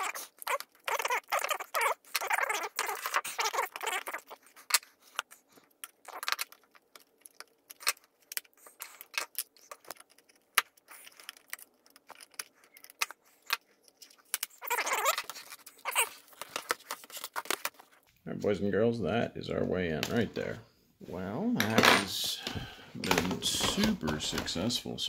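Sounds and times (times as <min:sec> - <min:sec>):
plastic scraping rustles: 0:00.0 - 0:18.1, 0:21.6 - 0:24.8.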